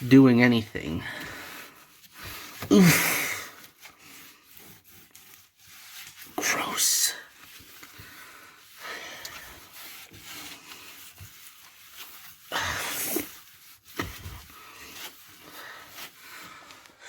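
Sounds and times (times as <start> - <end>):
scrubbing inside refrigerator: 0.0 - 17.0.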